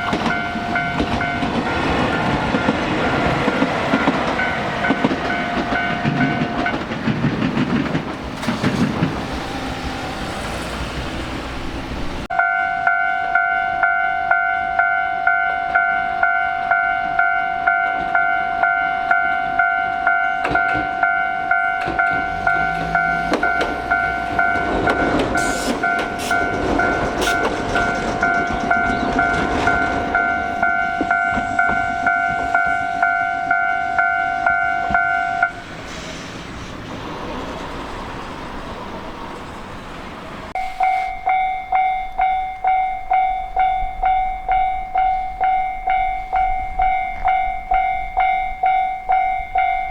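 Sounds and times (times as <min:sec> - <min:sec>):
level-crossing warning bell: 0:00.0 - 0:08.2, 0:12.3 - 0:35.6, 0:40.5 - 0:49.9
train rumbling and clattering: 0:00.0 - 0:12.3, 0:15.3 - 0:49.9.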